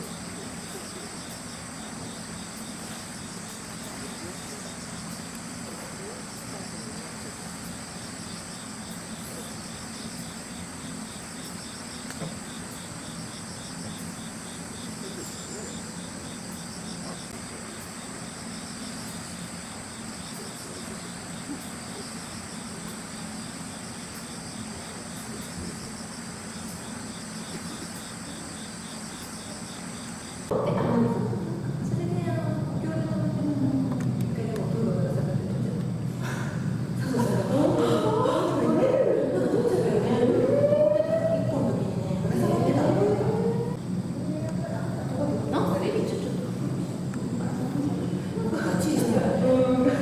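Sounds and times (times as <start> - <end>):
insects trilling: 0.0 - 50.0.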